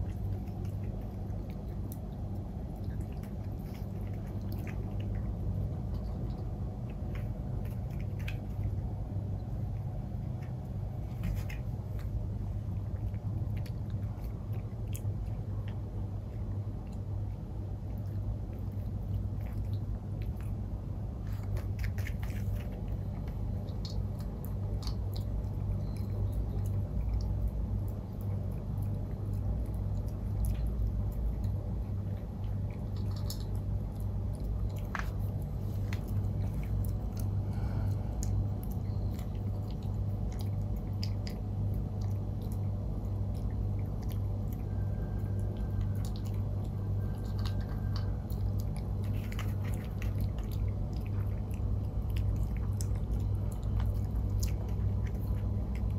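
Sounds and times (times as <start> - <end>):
puppy crunching food: 0.0 - 55.9
steady low hum: 0.0 - 55.9.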